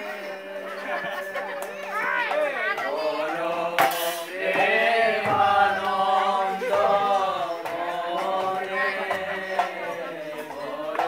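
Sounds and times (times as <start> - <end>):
men chanting in held notes: 0.0 - 11.0.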